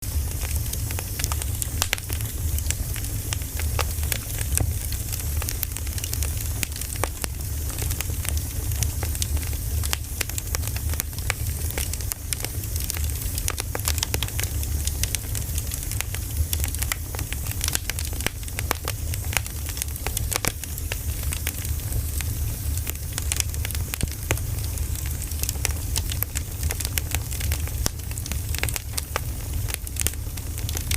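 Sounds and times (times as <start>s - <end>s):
bonfire crackling and popping: 0.0s - 30.9s
low fire rumble: 0.0s - 30.9s.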